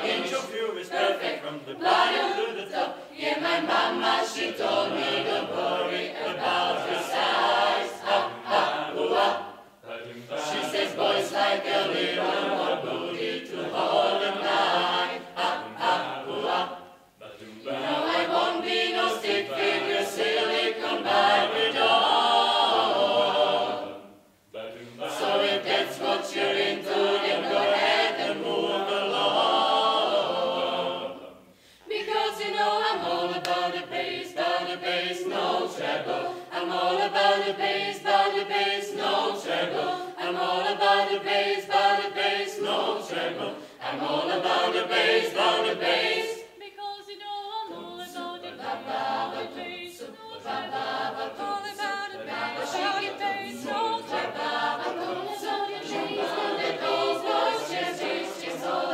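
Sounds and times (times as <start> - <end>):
choir singing a cappella: 0.0 - 58.9.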